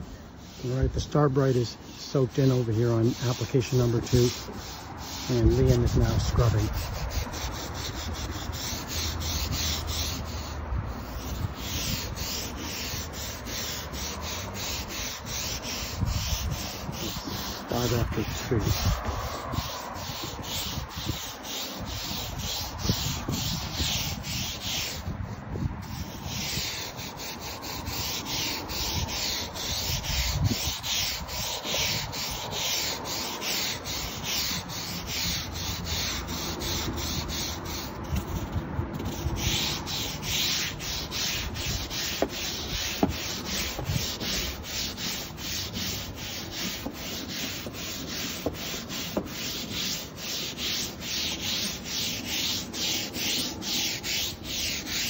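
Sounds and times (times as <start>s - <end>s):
deck brush scrubbing wet boards: 0.0s - 55.0s.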